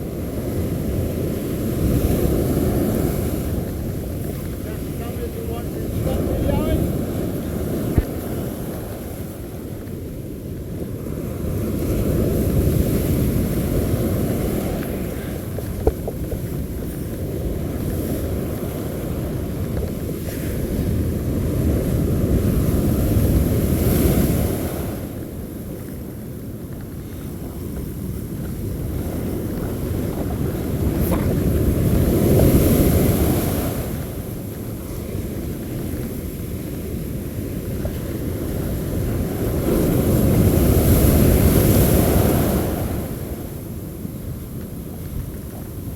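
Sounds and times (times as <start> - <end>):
surf washing on beach: 0.0 - 45.9
wind rumbling on microphone: 0.0 - 45.9.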